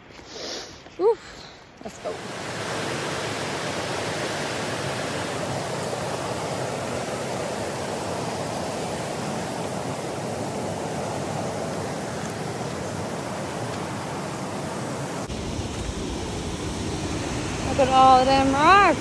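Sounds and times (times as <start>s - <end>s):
flowing water rushing: 1.8s - 19.0s.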